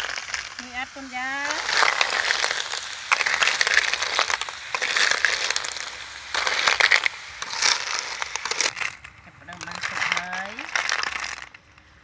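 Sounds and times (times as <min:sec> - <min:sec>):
snail shells clattering in a pan: 0:00.0 - 0:12.0.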